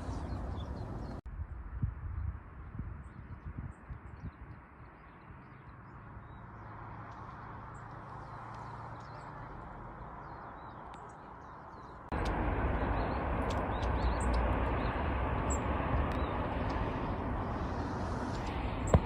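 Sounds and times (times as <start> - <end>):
small birds chirping: 0.0 - 1.2, 3.0 - 19.0.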